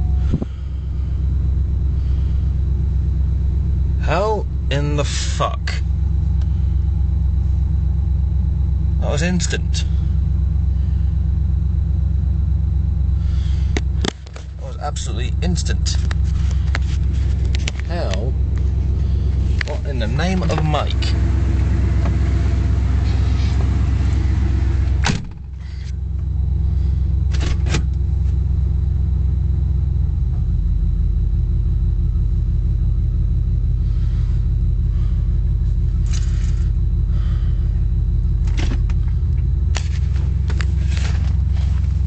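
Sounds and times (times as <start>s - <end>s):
car engine humming: 0.0s - 42.0s.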